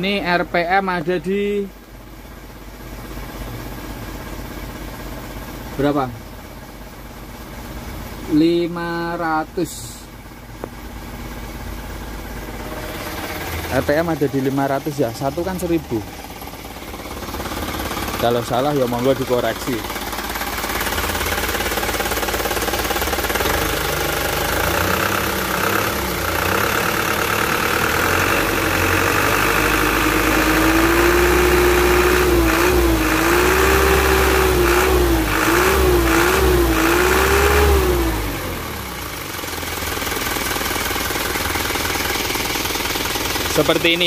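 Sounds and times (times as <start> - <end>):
diesel engine idling and revving: 0.0 - 44.0.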